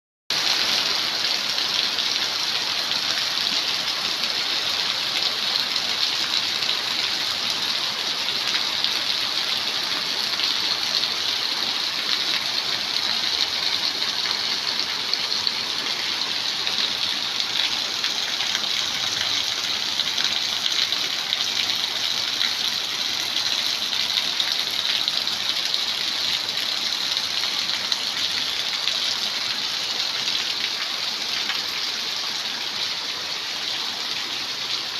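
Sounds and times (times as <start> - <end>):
heavy rain pouring: 0.4 - 34.9.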